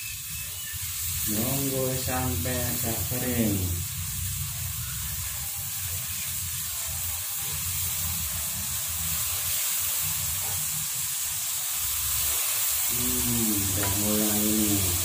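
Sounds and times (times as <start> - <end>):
porridge sizzling in a wok: 0.0 - 15.0.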